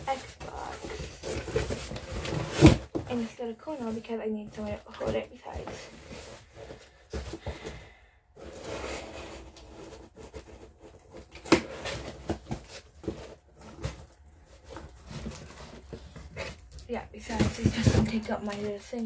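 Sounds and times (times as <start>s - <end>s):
cardboard box rustles and knocks: 0.0s - 7.8s, 8.9s - 18.8s.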